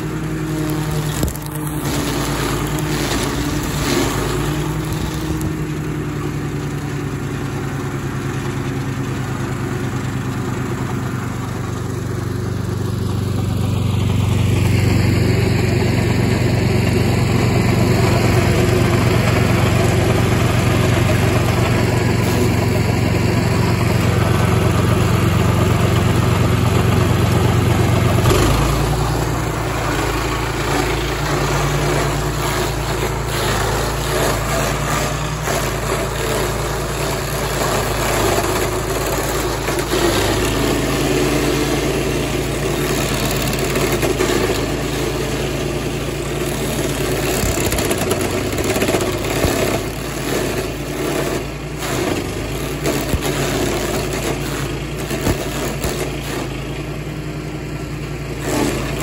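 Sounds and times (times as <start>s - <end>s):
cutter wheel grinding stump: 0.0s - 59.0s
stump grinder engine running: 0.0s - 59.0s.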